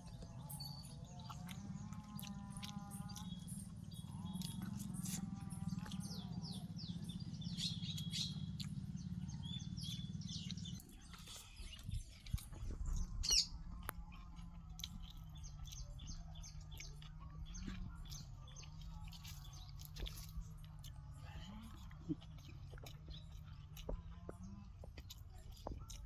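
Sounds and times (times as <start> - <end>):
low hum: 0.0 - 25.9
small birds chirping: 0.0 - 26.0
person eating: 0.1 - 6.1, 10.8 - 26.0.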